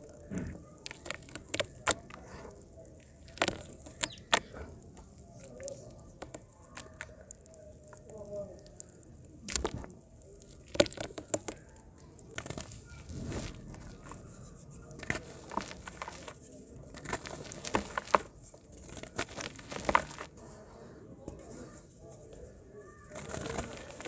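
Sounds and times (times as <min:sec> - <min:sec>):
dry mud crumbling and crunching: 0:00.0 - 0:20.6, 0:21.3 - 0:24.0.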